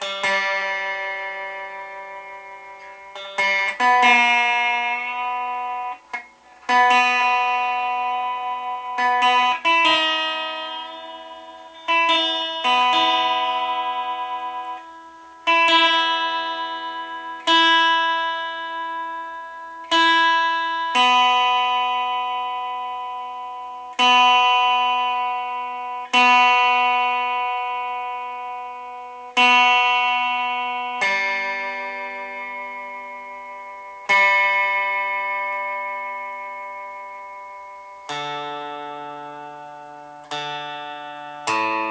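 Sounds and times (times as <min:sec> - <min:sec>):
electric guitar chords ringing: 0:00.0 - 0:41.9.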